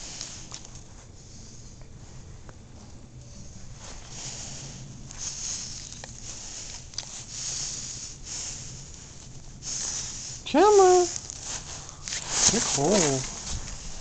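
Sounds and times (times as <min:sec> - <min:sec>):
dog sniffing and breathing: 0:00.0 - 0:14.0.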